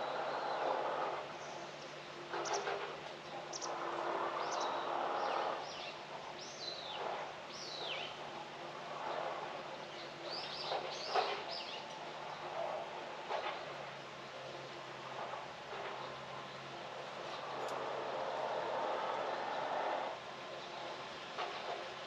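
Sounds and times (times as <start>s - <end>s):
open-air background hiss: 0.0s - 22.0s.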